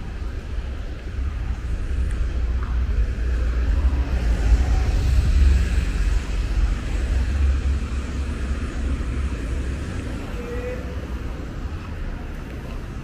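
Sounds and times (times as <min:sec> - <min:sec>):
traffic: 0:00.0 - 0:13.0
wind on microphone: 0:00.0 - 0:13.0.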